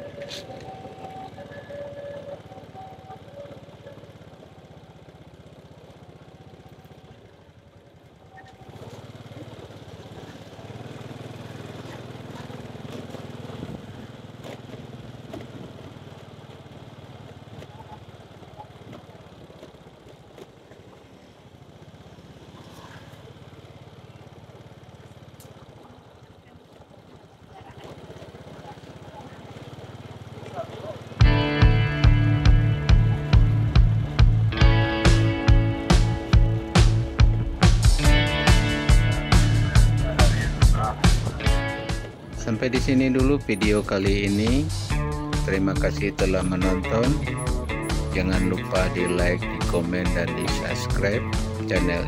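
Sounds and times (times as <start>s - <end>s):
motorcycle engine running: 0.0s - 52.0s
street noise: 0.0s - 52.0s.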